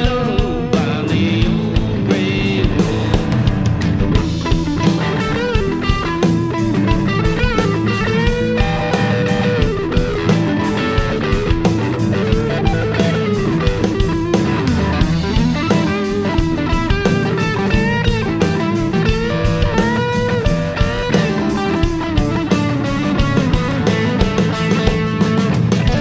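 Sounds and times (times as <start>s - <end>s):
bass guitar: 0.0s - 26.0s
drum kit beat: 0.0s - 26.0s
electric guitars: 0.0s - 26.0s
wavering lead guitar: 0.0s - 26.0s.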